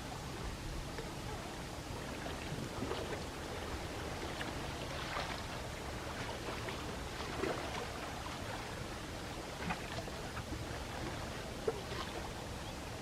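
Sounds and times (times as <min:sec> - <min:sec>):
gentle waves lapping at shore: 0:00.0 - 0:13.0.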